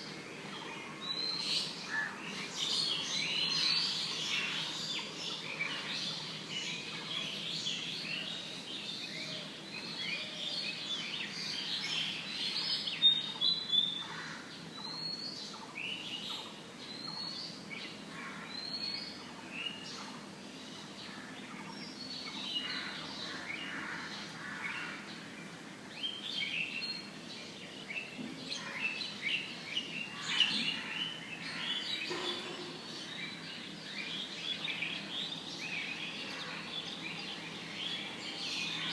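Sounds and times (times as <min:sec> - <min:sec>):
recording hiss: 0:00.0 - 0:38.9
birds chirping and calling: 0:00.4 - 0:38.9.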